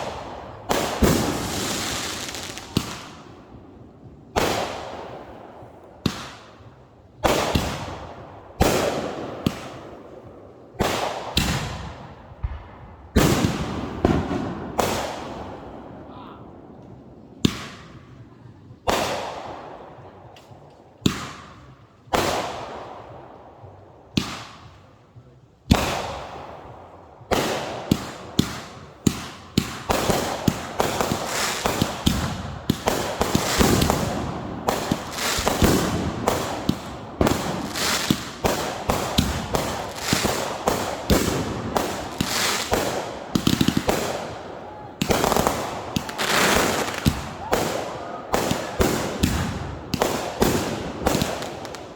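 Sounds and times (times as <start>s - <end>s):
fireworks banging and crackling: 0.0s - 51.9s.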